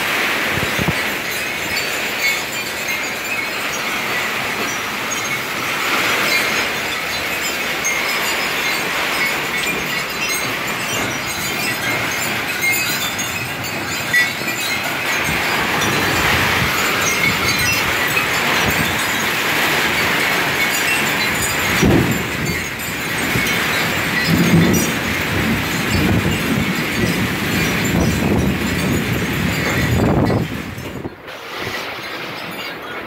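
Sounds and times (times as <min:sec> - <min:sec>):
heavy rain on pavement: 0:00.0 - 0:02.8, 0:03.6 - 0:30.8.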